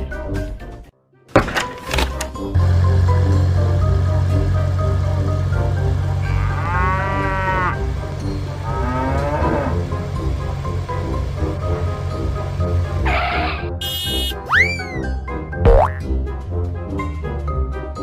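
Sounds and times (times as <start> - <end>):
background music with bass: 2.1 - 18.0.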